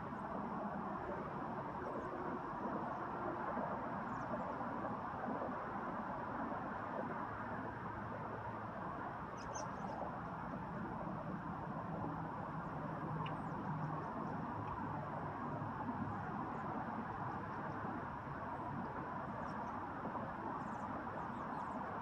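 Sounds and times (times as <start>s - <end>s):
outdoor rumble and hiss: 0.0s - 22.0s.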